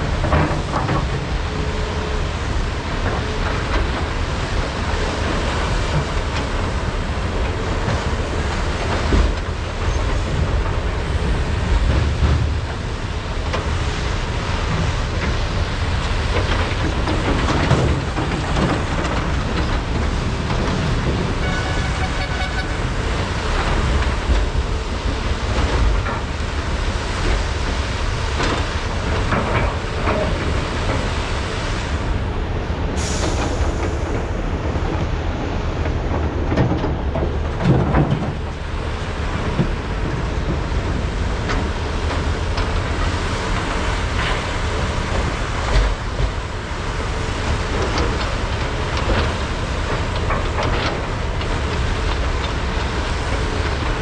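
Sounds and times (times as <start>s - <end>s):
diesel engines under load: 0.0s - 54.0s.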